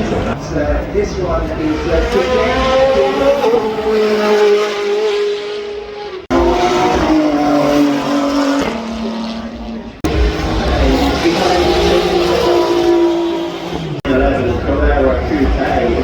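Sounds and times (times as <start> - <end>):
race car engines accelerating: 0.0 - 16.0.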